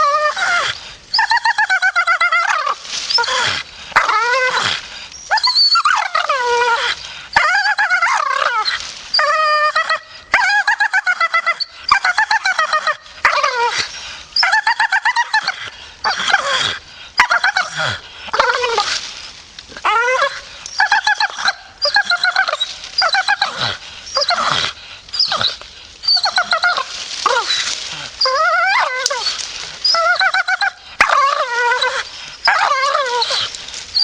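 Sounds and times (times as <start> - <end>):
dog whining and grumbling: 0.0 - 19.0, 19.8 - 34.0.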